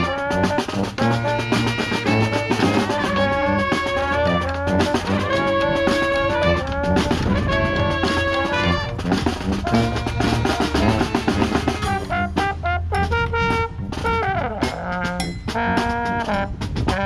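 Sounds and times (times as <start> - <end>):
brass band playing: 0.0 - 17.0
snare drum beat: 0.0 - 17.0.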